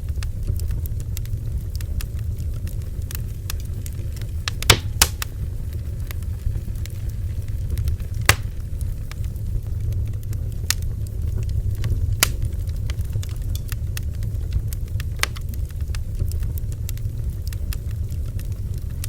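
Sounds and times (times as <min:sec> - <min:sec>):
fire crackling and popping: 0:00.0 - 0:19.0
rumble of flames: 0:00.0 - 0:19.0.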